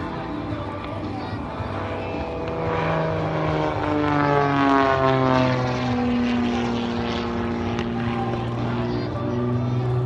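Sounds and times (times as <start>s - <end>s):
propeller airplane flying past: 0.0s - 10.0s.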